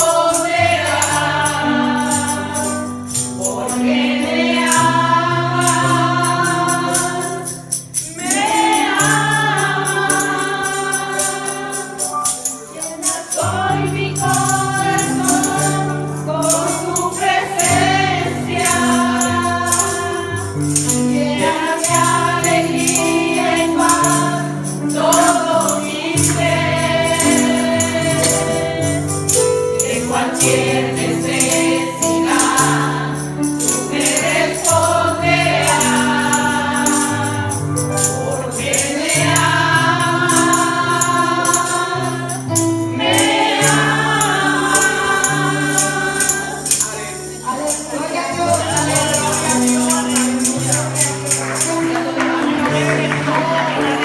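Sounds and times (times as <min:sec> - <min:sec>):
group singing worship song: 0:00.0 - 0:54.0
tambourine shaking: 0:00.0 - 0:54.0.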